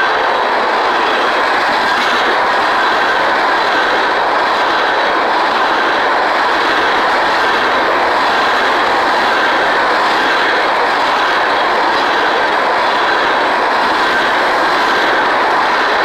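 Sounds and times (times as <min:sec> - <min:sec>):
freight train wheels on rail: 0:00.0 - 0:16.0.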